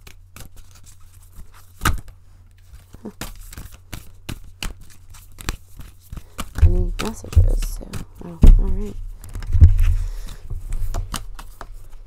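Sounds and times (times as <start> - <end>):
cards being shuffled by hand: 0.0 - 12.0.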